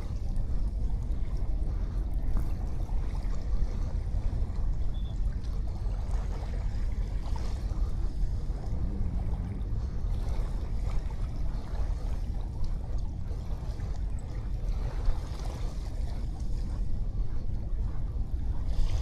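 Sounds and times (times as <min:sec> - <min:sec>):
waves washing on a beach: 0:00.0 - 0:19.0.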